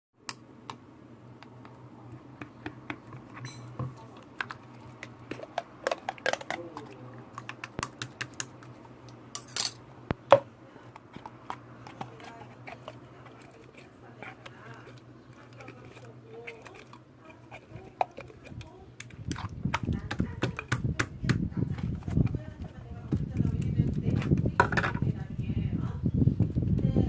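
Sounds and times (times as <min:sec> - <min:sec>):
steady low hum: 0:00.2 - 0:27.0.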